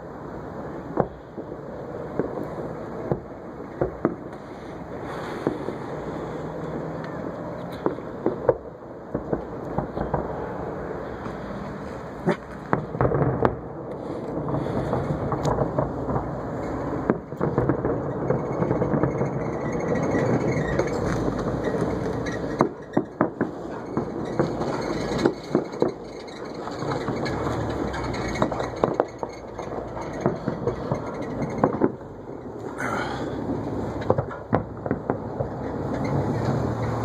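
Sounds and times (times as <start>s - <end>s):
fireworks bangs: 0.0s - 37.0s
steady rumble: 0.0s - 37.0s.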